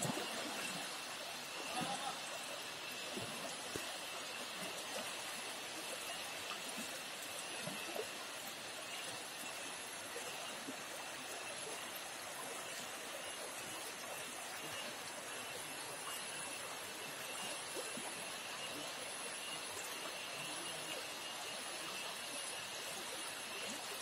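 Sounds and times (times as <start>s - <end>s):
water splashes and gurgles: 0.0s - 24.0s.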